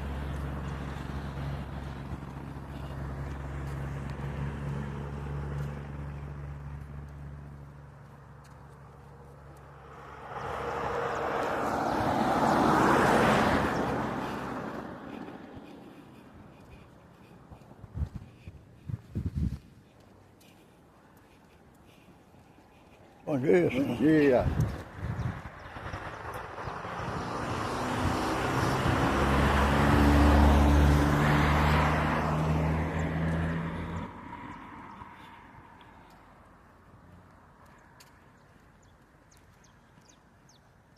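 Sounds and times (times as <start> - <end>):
vehicle passing by: 0.0 - 19.9, 20.5 - 38.6.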